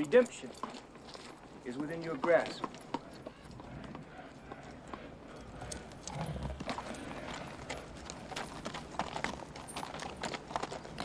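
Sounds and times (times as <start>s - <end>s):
horse hooves on gravel: 0.0s - 11.0s.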